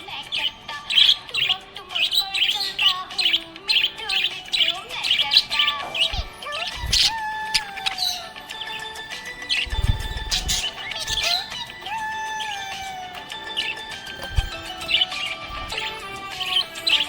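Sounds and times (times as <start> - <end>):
parrots chirping: 0.0 - 17.0
slow melodic background music: 0.0 - 17.0.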